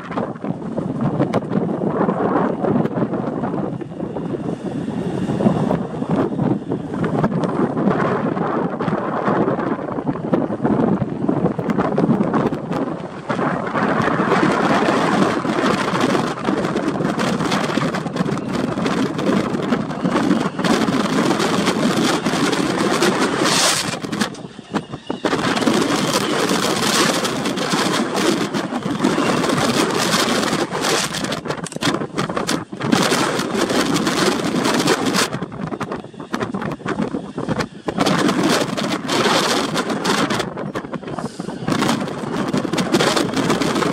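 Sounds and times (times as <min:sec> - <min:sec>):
gusty wind on microphone: 0:00.0 - 0:43.9.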